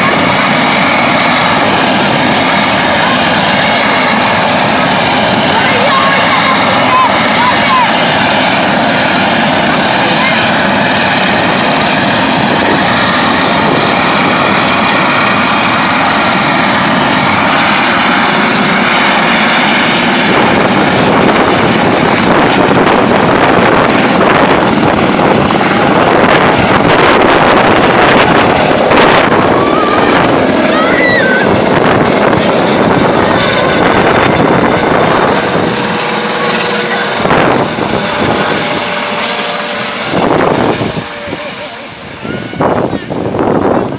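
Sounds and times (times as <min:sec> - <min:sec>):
helicopter turbine and rotor: 0:00.0 - 0:43.9
wind buffeting microphone: 0:00.0 - 0:43.9.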